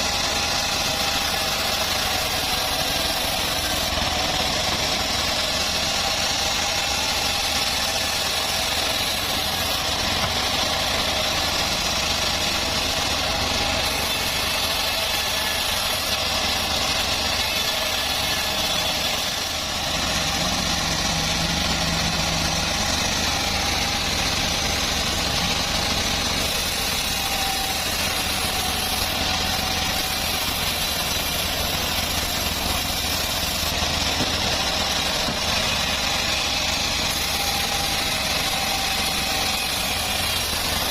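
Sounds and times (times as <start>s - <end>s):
bandsaw sawmill running: 0.0s - 40.9s.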